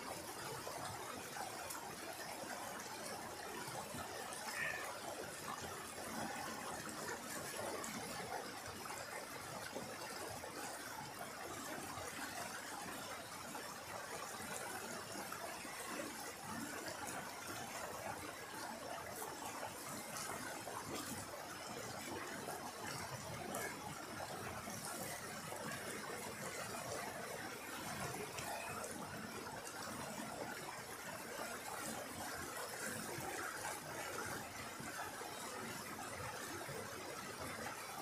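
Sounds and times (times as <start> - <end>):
stream rushing over rocks: 0.0 - 38.0.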